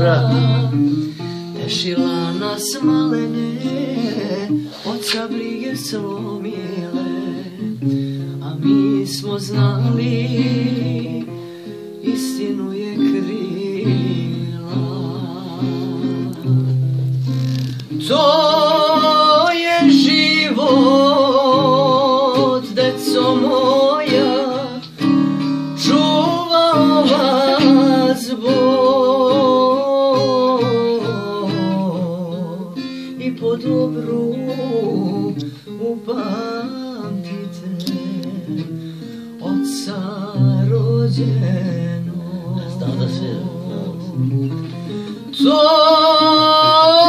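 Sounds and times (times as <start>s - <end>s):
acoustic guitar strumming chords: 0.0s - 47.0s
person singing with vibrato: 0.0s - 47.0s.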